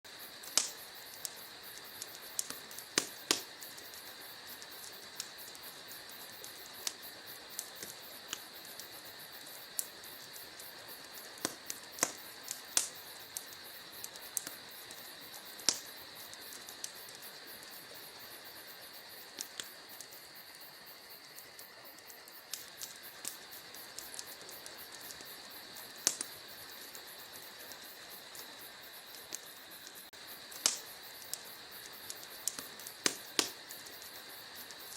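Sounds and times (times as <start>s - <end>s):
soft fire hiss: 0.1s - 34.9s
wood fire crackling and popping: 0.1s - 34.9s.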